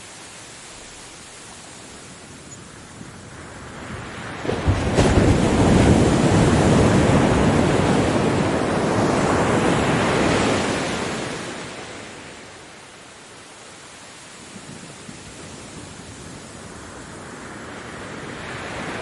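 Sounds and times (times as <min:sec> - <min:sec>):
ocean wave breaking: 0:00.0 - 0:12.8, 0:15.0 - 0:19.0.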